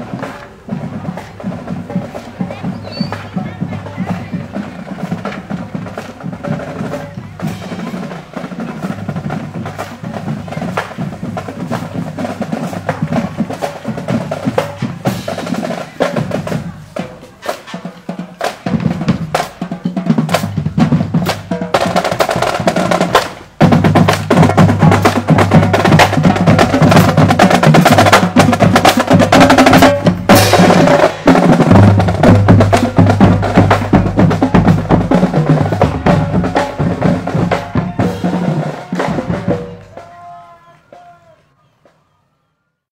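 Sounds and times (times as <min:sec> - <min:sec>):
bass drums: 0:00.0 - 0:40.2
snare drums with rolls: 0:00.0 - 0:41.2.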